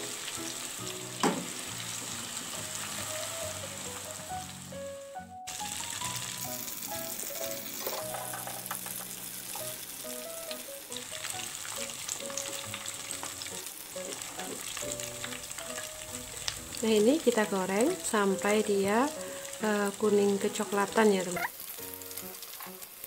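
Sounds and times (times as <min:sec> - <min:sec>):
tofu sizzling in deep-frying oil: 0:00.0 - 0:23.0.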